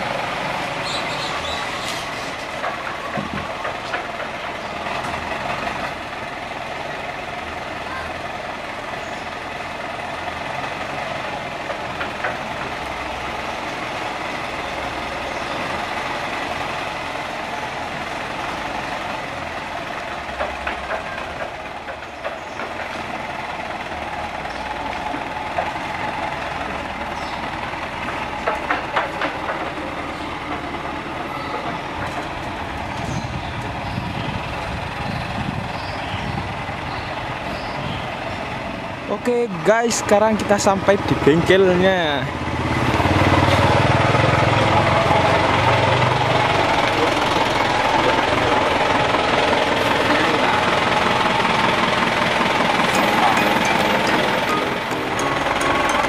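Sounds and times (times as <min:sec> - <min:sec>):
diesel truck engine clattering: 0:00.0 - 0:56.0.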